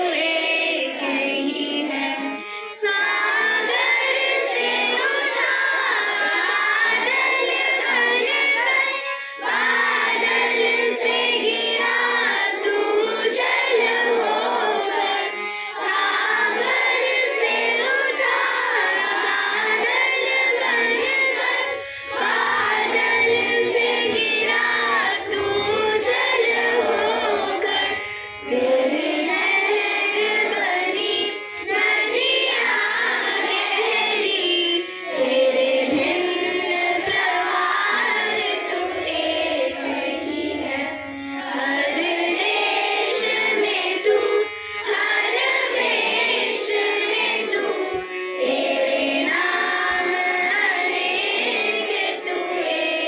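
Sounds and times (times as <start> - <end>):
children singing together: 0.0 - 53.0.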